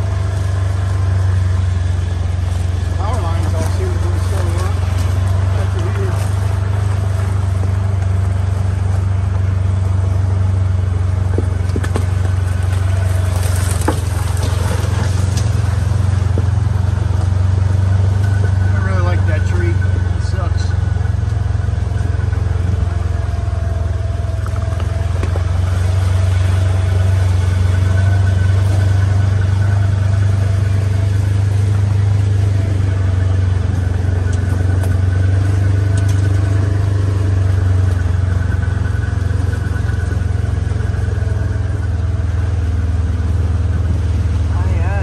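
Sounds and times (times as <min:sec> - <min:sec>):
engine droning steadily: 0:00.0 - 0:45.0.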